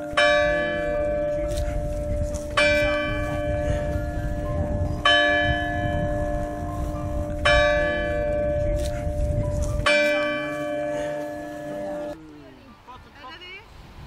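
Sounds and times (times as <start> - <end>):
bell tolling: 0.0 - 9.2, 9.8 - 12.2.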